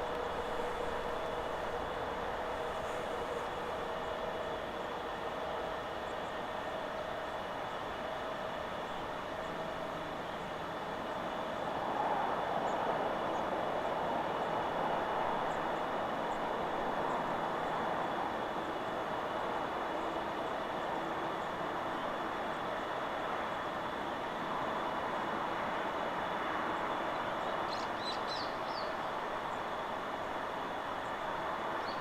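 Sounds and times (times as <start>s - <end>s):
wind rushing through trees: 0.0s - 32.0s.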